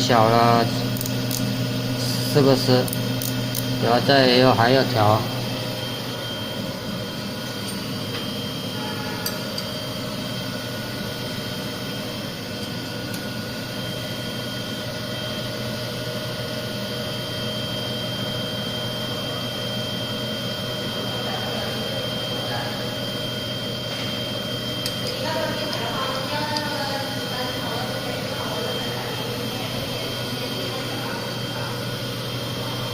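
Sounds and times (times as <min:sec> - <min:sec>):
grinder motor humming: 0:00.0 - 0:32.9
high steady whine: 0:00.0 - 0:32.9.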